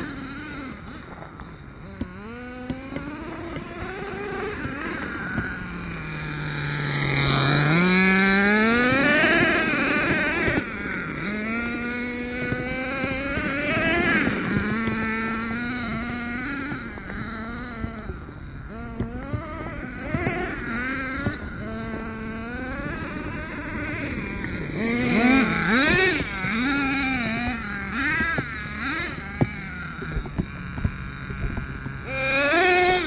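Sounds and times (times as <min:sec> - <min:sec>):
small nitro engine revving: 0:00.0 - 0:33.0.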